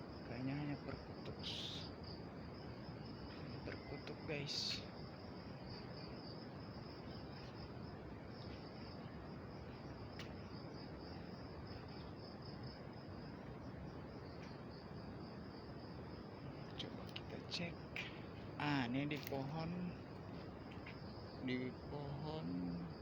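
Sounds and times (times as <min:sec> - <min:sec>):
insect chirring: 0:00.0 - 0:23.0.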